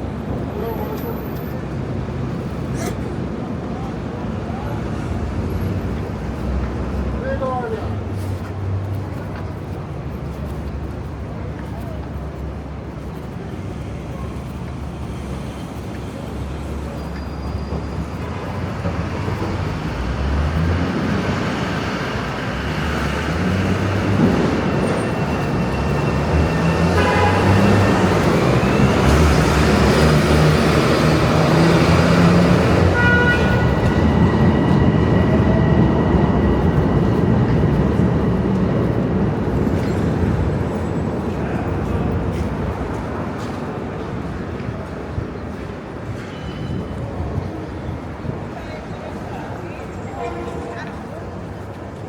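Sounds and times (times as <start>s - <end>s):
vehicle engine and tyre noise: 0.0s - 49.2s.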